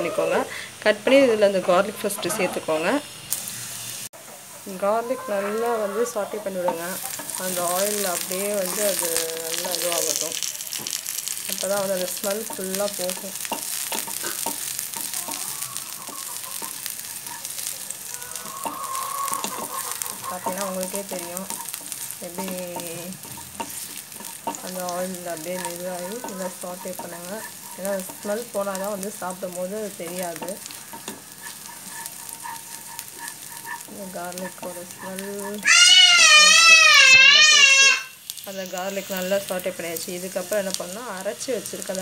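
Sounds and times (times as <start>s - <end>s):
garlic sizzling in hot oil: 0.0s - 42.0s
wooden spatula stirring in pan: 4.2s - 42.0s.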